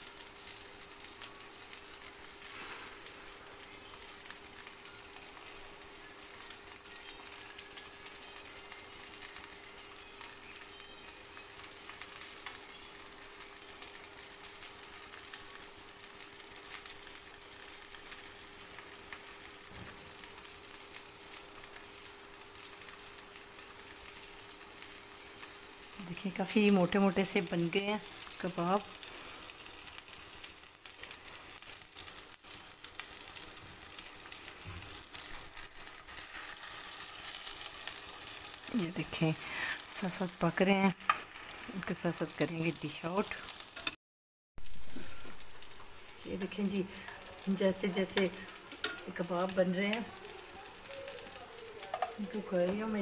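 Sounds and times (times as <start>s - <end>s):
chicken frying in oil: 0.0s - 44.0s, 44.6s - 53.0s.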